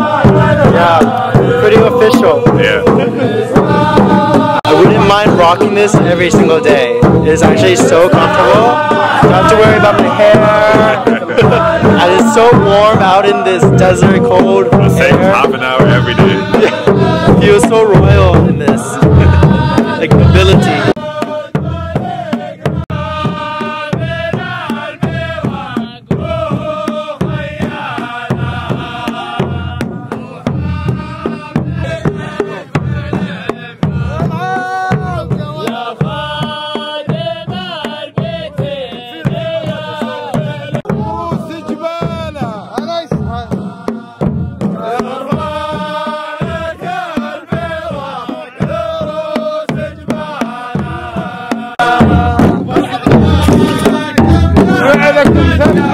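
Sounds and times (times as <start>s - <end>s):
large drums beating: 0.0s - 55.9s
men chanting: 0.0s - 55.9s.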